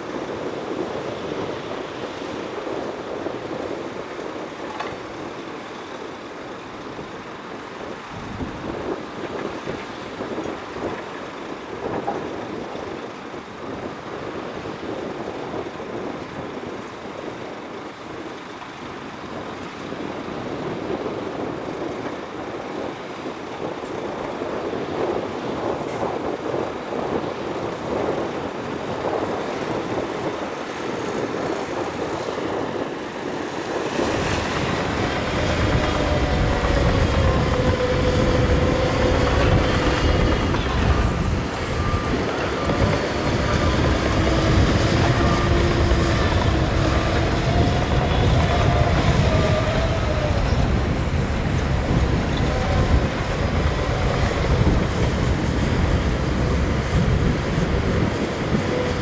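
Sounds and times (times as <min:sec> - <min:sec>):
bulldozer engine rumbling: 0:00.0 - 0:59.0
machine whine: 0:00.0 - 0:59.0.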